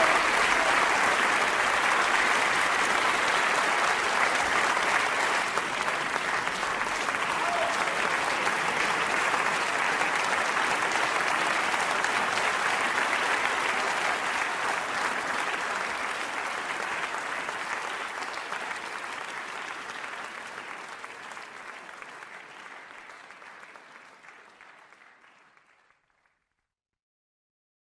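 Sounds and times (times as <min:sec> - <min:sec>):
crowd applause: 0:00.0 - 0:26.6.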